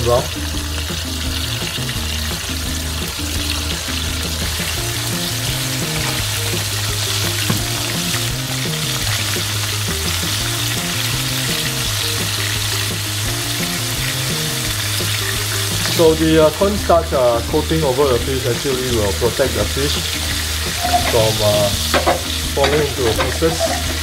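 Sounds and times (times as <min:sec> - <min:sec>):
background music: 0:00.0 - 0:24.0
fish sizzling in hot oil: 0:00.0 - 0:24.0.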